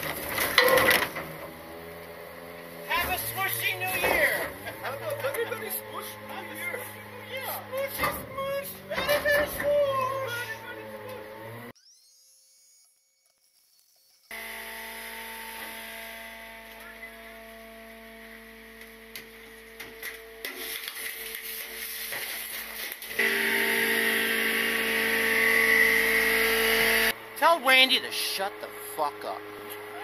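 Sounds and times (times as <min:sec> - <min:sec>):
hydraulic packer whining: 0:00.0 - 0:11.8, 0:14.3 - 0:30.0.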